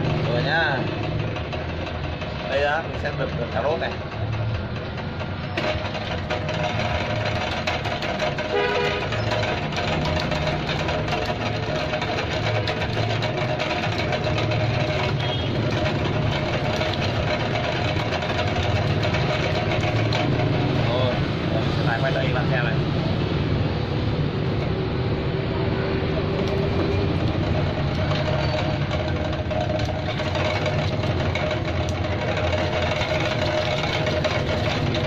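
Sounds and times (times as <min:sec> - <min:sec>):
slicing machine motor running: 0:00.0 - 0:35.0.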